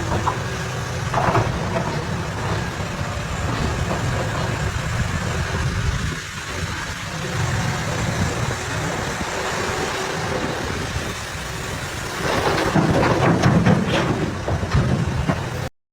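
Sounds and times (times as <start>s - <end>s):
heavy truck engine rumbling: 0.0s - 15.7s.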